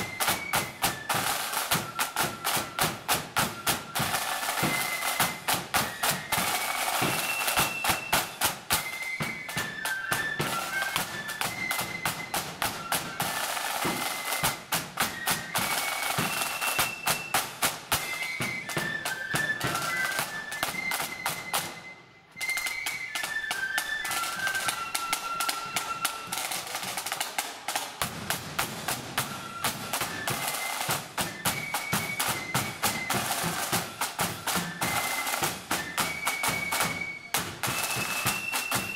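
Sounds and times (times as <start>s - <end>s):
side drum strokes: 0.0s - 20.0s, 24.6s - 38.9s
flutes playing a tune: 0.0s - 38.9s.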